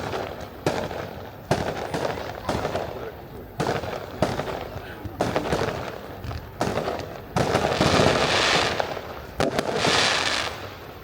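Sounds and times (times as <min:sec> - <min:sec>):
fireworks bangs: 0:00.0 - 0:11.0
fireworks hissing crackle: 0:00.0 - 0:11.0.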